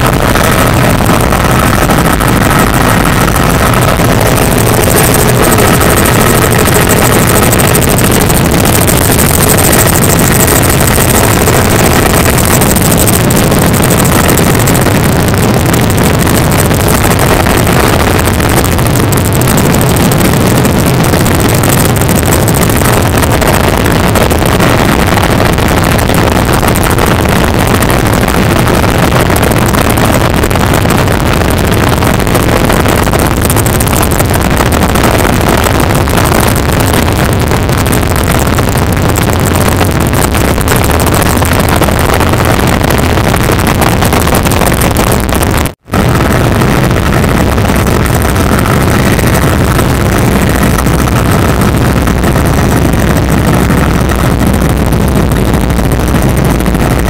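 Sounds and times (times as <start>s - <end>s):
helicopter rotor and engine noise: 0.0s - 57.0s.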